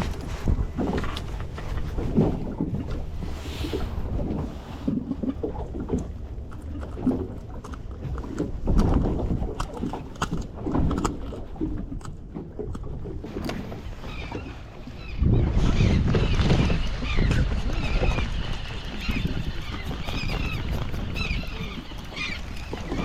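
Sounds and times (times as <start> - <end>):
small boat engine rumble: 0.0 - 23.0.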